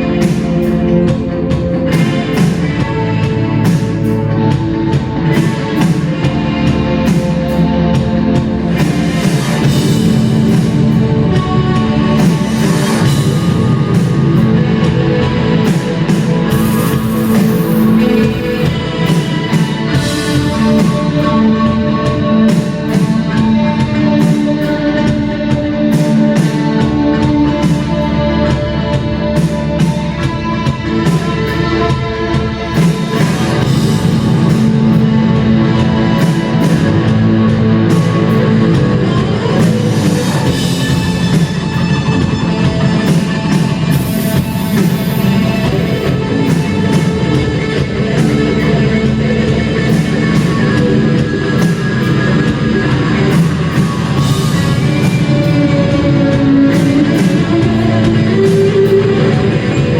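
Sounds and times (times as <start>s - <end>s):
drum kit: 0.0s - 59.9s
electric guitar: 0.0s - 59.9s
live rock band playing: 0.0s - 59.9s.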